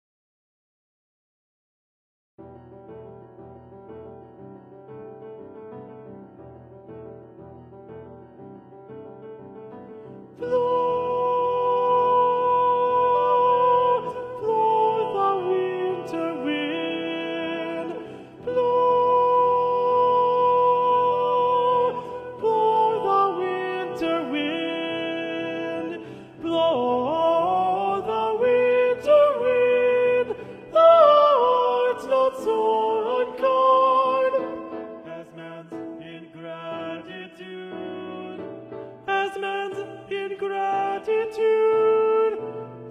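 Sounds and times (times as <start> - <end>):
soft musical accompaniment: 2.4 - 42.9.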